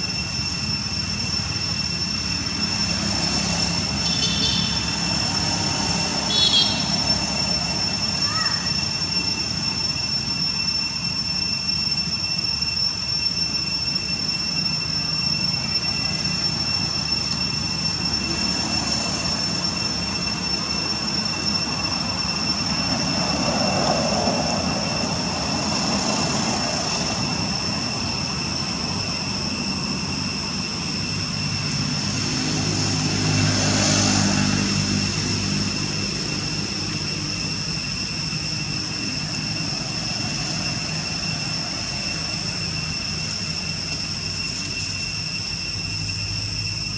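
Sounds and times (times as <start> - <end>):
high-pitched whine: 0.0 - 46.9
low engine-like hum: 0.0 - 46.9.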